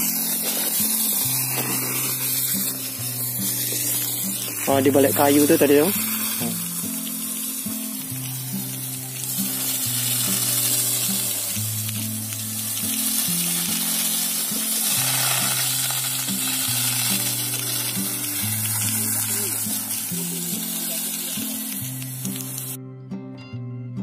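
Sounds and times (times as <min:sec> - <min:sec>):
fire hose jetting water: 0:00.0 - 0:22.8
background music with low notes: 0:00.0 - 0:24.0.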